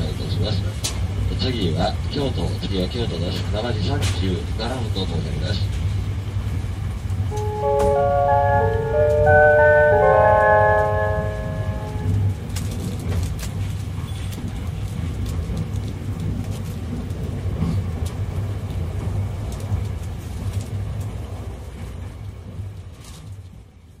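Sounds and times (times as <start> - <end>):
train cabin low rumble: 0.0 - 24.0.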